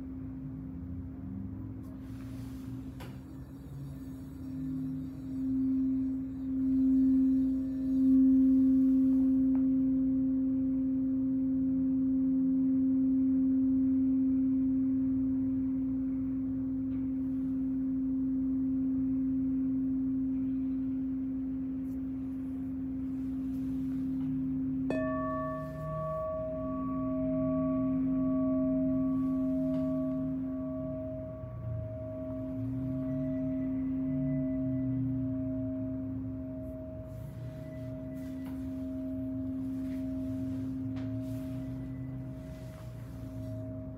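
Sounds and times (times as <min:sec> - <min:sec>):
singing bowl ringing: 0:01.9 - 0:43.9.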